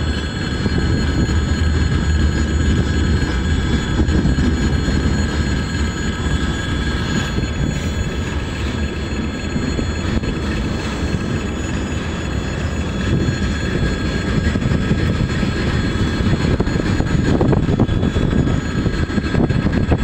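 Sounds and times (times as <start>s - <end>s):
high-pitched ringing: 0.0s - 19.9s
train wheels rumbling on rails: 0.0s - 20.0s.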